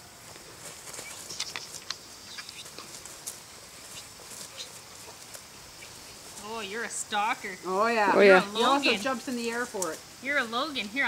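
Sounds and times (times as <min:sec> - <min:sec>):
rustling in grass: 0:00.0 - 0:11.0.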